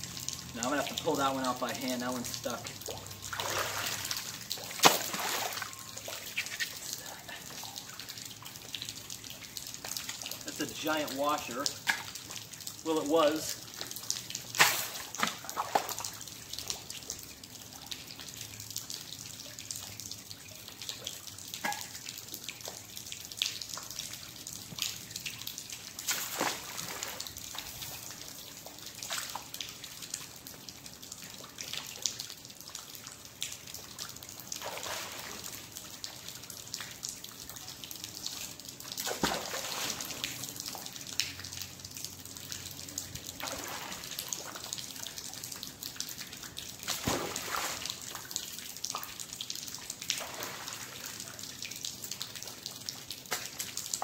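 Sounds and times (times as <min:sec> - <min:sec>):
water splashing: 0:00.0 - 0:17.2, 0:19.4 - 0:54.0
water running off rope: 0:00.2 - 0:17.2, 0:19.8 - 0:32.2, 0:32.9 - 0:54.0.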